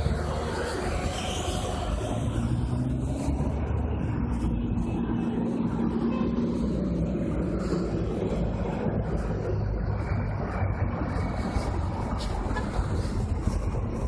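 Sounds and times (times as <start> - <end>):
engine low rumble: 0.0 - 14.0
road noise: 0.0 - 14.0.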